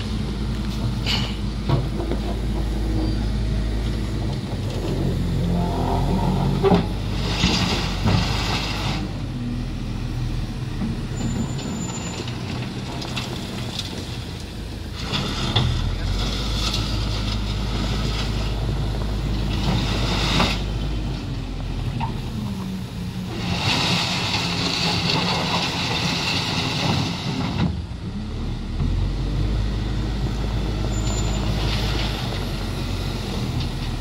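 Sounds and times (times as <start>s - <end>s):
diesel truck engine droning: 0.0s - 34.0s.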